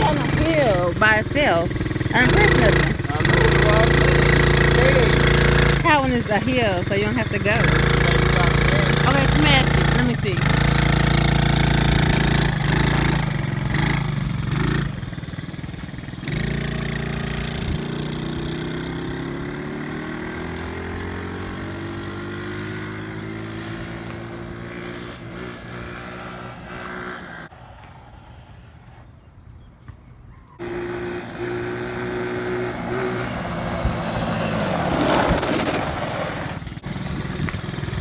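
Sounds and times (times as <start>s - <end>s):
off-road vehicle engine revving: 0.0s - 27.5s, 30.6s - 38.0s.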